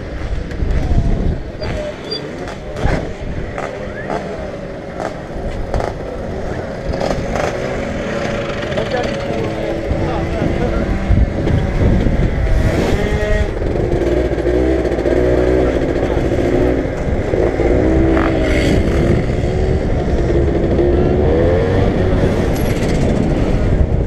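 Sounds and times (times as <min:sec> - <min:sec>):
scooter engine revving: 0:00.2 - 0:24.0.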